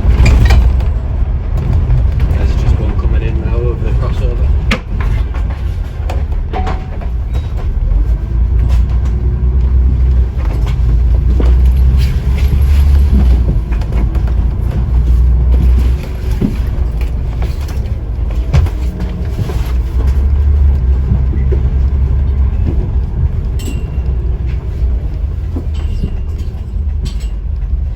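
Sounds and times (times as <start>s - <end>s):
bus engine drone: 0.0s - 27.9s
rattles inside bus: 0.0s - 27.9s
road rumble: 0.0s - 27.9s.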